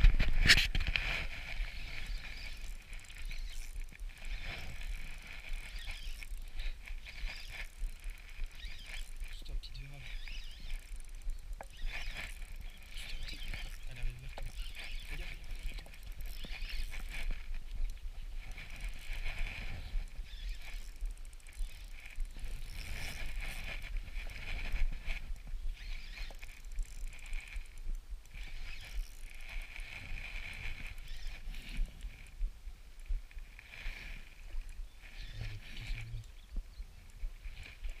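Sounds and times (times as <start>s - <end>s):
fishing reel whirring: 0.0s - 38.0s.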